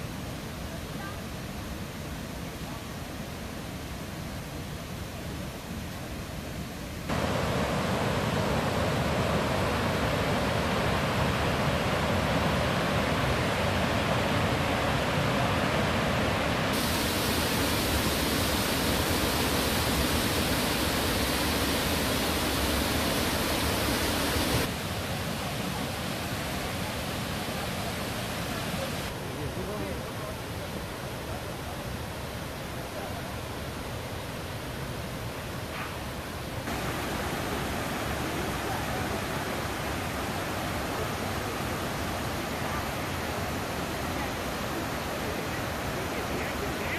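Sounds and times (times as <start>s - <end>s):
water rushing over cascades: 0.0s - 46.9s.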